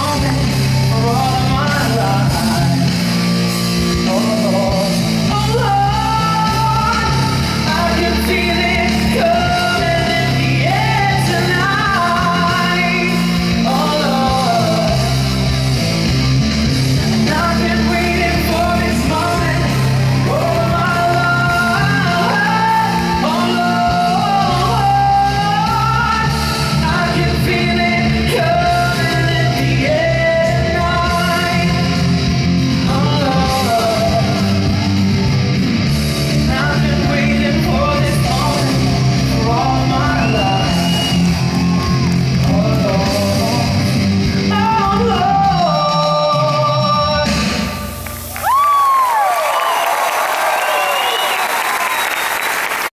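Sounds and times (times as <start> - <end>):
song over sound system: 0.0 - 52.8.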